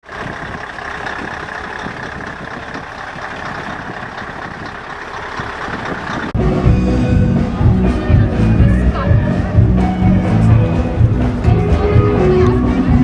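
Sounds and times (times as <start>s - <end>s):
heavy truck engines running: 0.0s - 13.0s.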